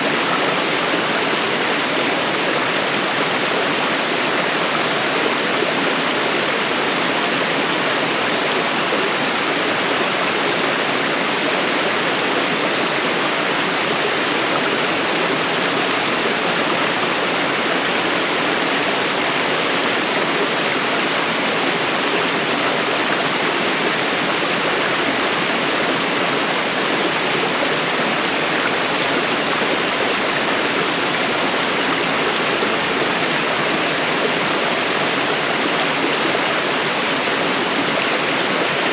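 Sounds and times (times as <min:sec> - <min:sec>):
waterfall rushing over rock: 0:00.0 - 0:38.9.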